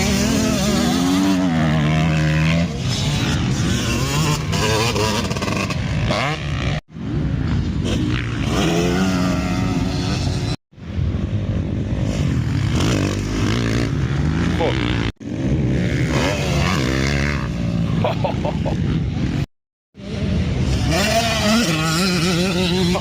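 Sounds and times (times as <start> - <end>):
motocross bike engines revving: 0.0 - 23.0.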